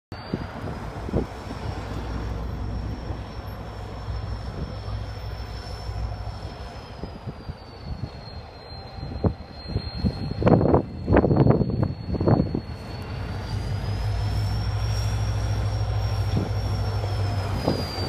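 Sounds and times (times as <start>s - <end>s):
diesel locomotive engine droning: 0.1s - 18.0s.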